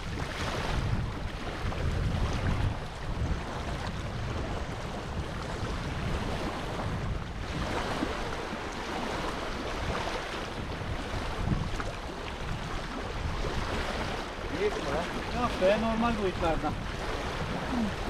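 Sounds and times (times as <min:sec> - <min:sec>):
wind blowing over microphone: 0:00.0 - 0:18.0.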